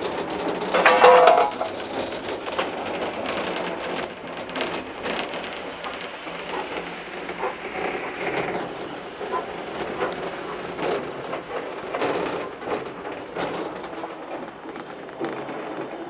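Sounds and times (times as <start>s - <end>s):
clatter and small knocks: 0.0s - 16.0s
steam locomotive rushing: 0.0s - 16.0s.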